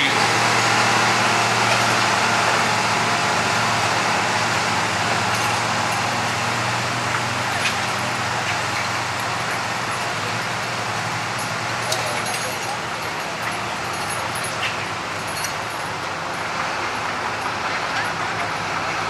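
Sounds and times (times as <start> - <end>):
tractor engine running hard: 0.0 - 19.0.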